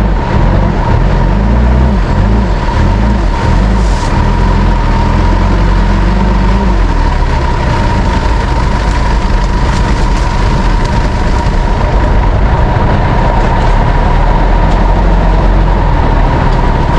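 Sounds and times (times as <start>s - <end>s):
car engine deep rumble: 0.0s - 16.9s
steady whine: 0.0s - 16.9s.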